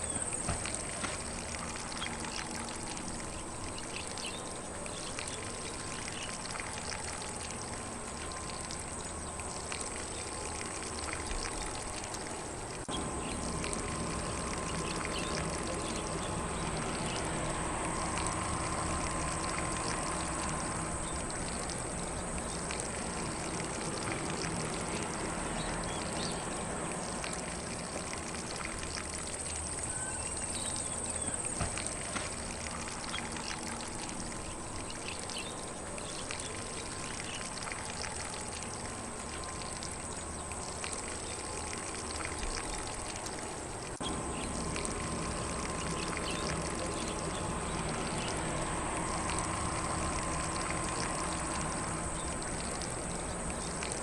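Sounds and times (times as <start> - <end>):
faint birds: 0.0 - 54.0
lawn sprinkler spraying water: 0.0 - 54.0.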